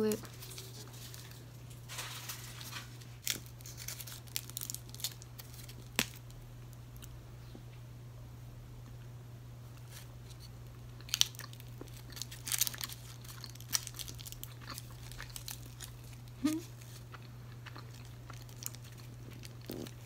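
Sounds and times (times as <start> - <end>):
chocolate bar crunching: 0.1 - 7.2, 9.8 - 20.0.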